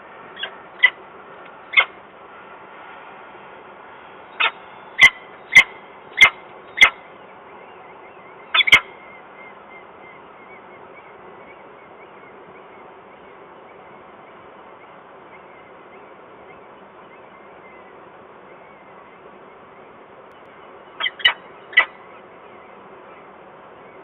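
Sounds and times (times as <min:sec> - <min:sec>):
falcon calling: 0:00.4 - 0:01.0, 0:01.7 - 0:02.0, 0:04.3 - 0:20.0, 0:20.6 - 0:24.0.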